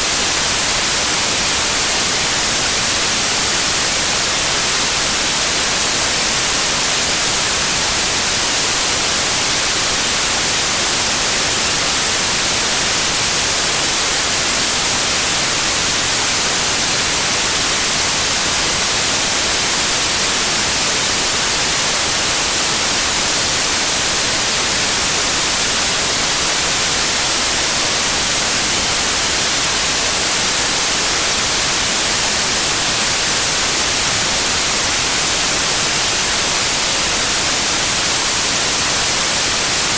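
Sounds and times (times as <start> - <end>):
synthetic noise hiss: 0.0 - 39.9.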